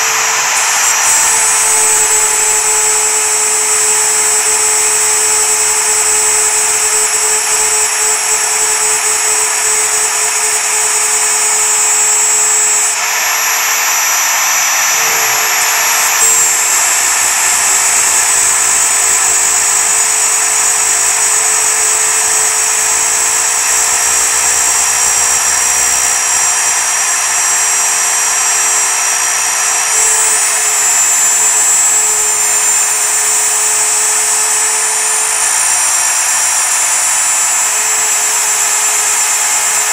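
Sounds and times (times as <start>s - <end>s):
router spindle whine cutting metal: 0.0s - 39.9s.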